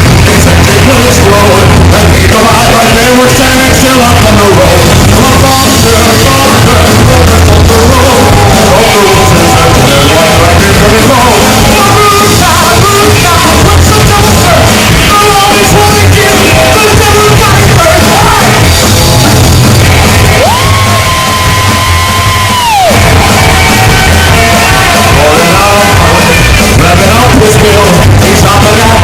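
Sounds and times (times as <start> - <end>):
person singing and yelling: 0.0 - 29.0
rockabilly band playing live: 0.0 - 29.0.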